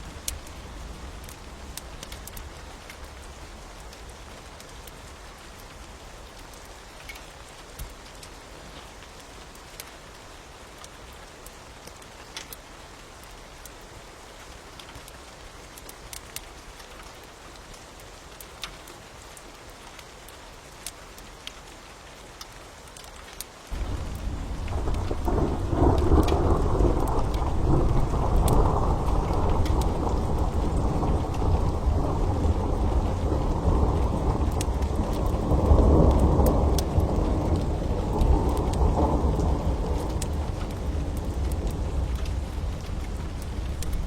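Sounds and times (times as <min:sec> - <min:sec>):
sharp crackles and pops: 0:00.0 - 0:13.8, 0:14.7 - 0:44.0
steady rain falling: 0:00.0 - 0:44.0.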